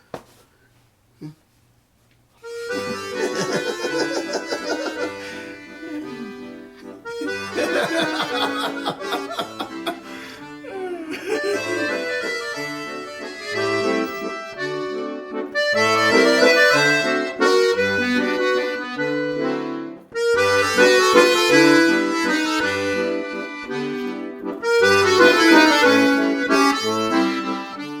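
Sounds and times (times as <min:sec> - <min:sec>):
instrumental music with bass line: 0:02.4 - 0:10.6, 0:11.4 - 0:28.0.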